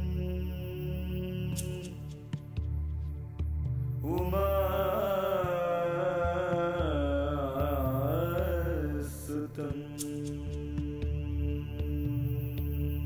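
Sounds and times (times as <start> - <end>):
person chanting: 0.0 - 2.2, 4.0 - 13.0
low pulsing drone: 0.0 - 13.0.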